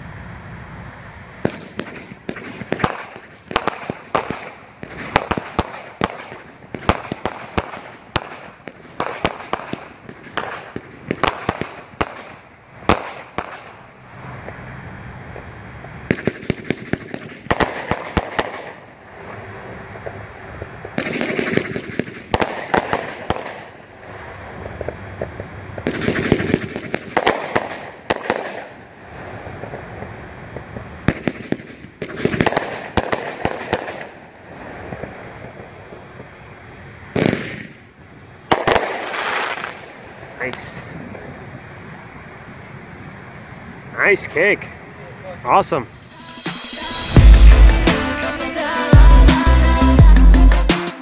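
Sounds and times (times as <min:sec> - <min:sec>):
fireworks crackling bursts: 0:00.0 - 0:51.0.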